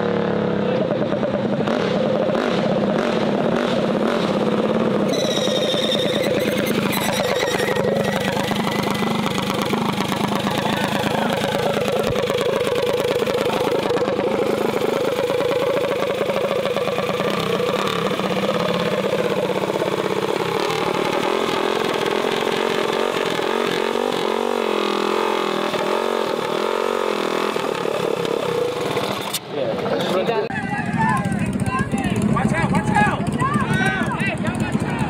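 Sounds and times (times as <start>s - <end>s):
mini bike engine revving: 0.0s - 35.0s.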